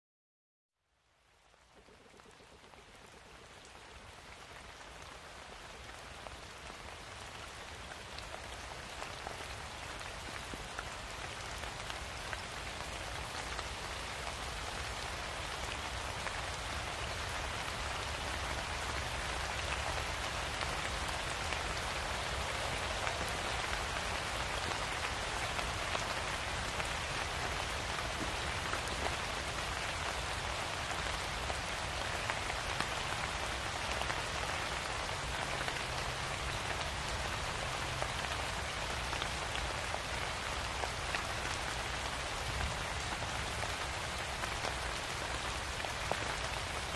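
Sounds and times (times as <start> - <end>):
steady rain falling: 0.7 - 46.9.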